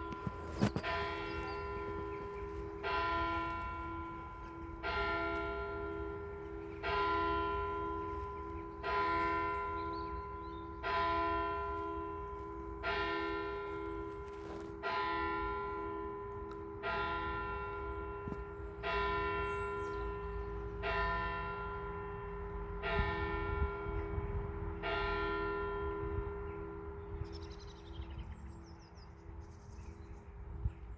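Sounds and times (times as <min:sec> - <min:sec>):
church bell tolling: 0:00.0 - 0:27.8.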